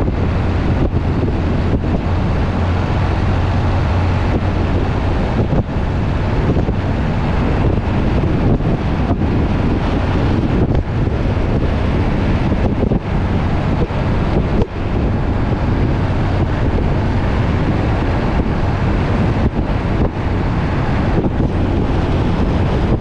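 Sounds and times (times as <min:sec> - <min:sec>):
truck engine drone: 0:00.0 - 0:23.0
wind rushing over microphone: 0:00.0 - 0:23.0.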